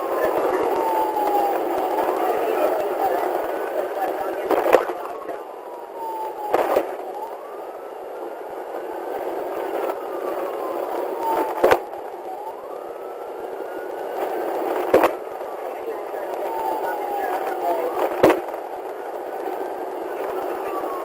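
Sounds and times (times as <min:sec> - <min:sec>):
police siren wailing: 0:00.0 - 0:21.0
road noise: 0:00.0 - 0:21.0.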